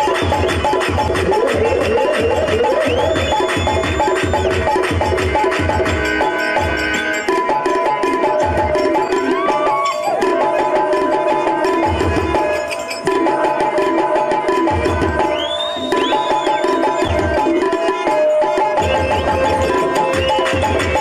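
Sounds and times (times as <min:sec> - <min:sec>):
hand drum rhythm: 0:00.0 - 0:21.0.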